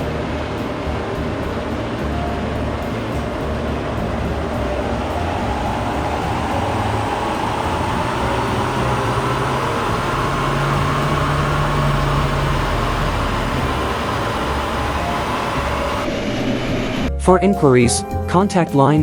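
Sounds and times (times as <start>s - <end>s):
diesel engine droning under load: 0.0s - 17.2s.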